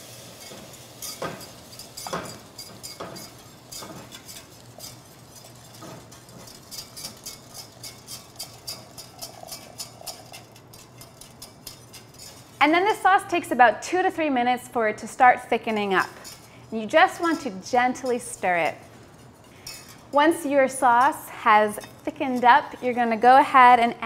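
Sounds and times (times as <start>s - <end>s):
whisk clinking in saucepan: 0.2s - 12.9s, 15.6s - 23.9s.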